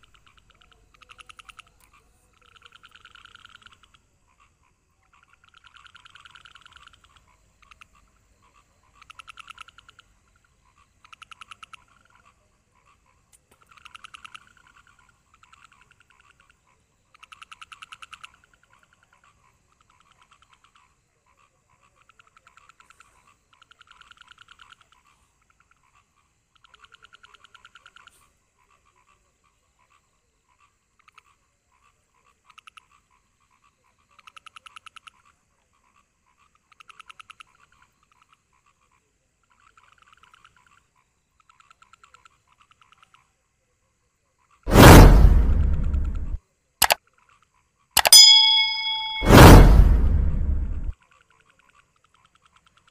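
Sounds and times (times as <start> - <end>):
frogs calling in pulsed trills: 0.0 - 43.4.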